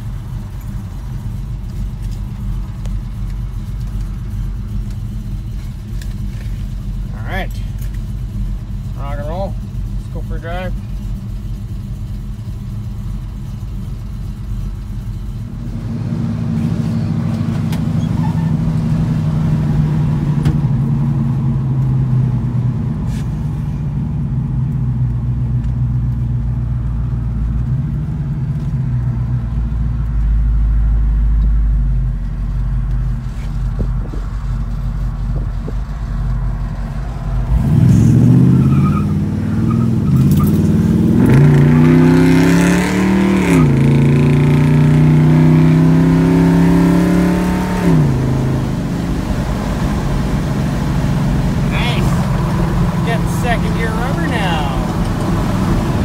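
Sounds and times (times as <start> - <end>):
truck engine from inside cab: 0.0 - 56.0.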